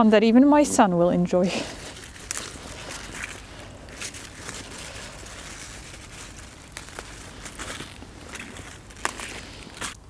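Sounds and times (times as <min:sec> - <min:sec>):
leaves rustling as picked: 0:00.5 - 0:10.0.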